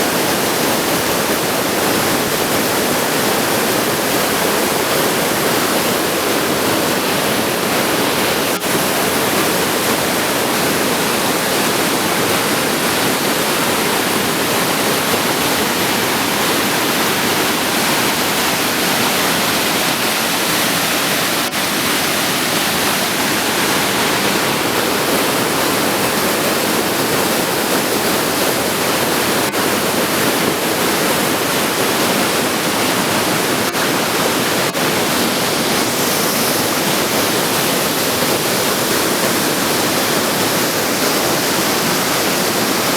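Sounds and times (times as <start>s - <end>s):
waterfall crashing onto rock: 0.0s - 42.9s.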